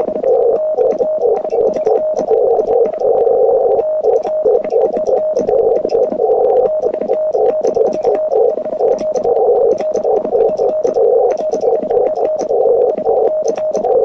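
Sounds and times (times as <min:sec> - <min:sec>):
morse code tone: 0:00.0 - 0:14.0
receiver hiss: 0:00.0 - 0:14.0.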